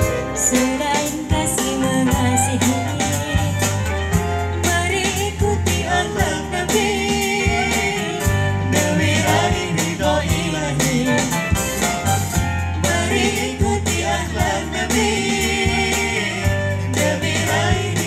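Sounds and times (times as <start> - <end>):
keyboard: 0.0 - 18.0
steady bass: 0.0 - 18.0
woman singing: 0.3 - 11.4, 12.9 - 16.4.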